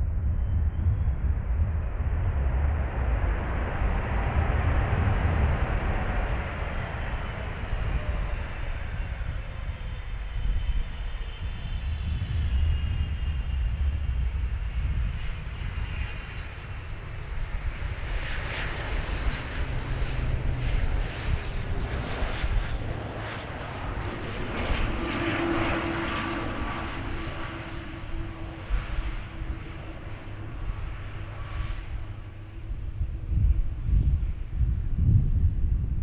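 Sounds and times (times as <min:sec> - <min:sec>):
jet engines roaring: 0:00.1 - 0:34.9.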